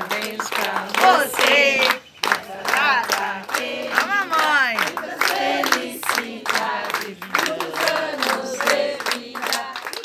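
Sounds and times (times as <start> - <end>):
group chanting: 0.0 - 10.0
rhythmic hand clapping: 0.0 - 10.0.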